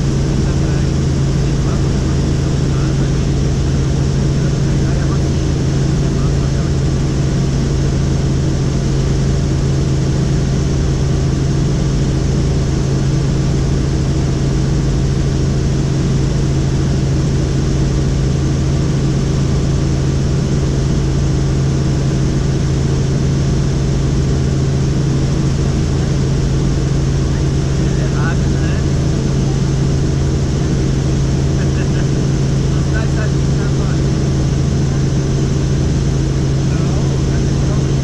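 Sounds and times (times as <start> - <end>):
helicopter drone: 0.0 - 38.0.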